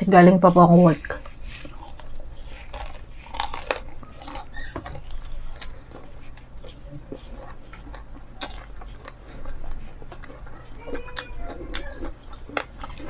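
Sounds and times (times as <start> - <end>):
crunchy chewing of fried chicken: 1.0 - 13.0.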